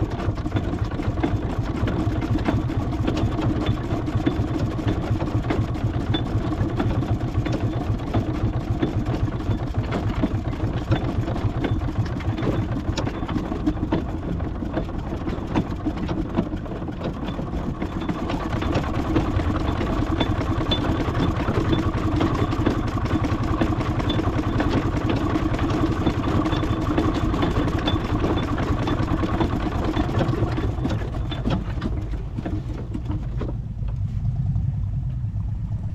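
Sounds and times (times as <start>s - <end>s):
large engine running: 0.0s - 35.9s.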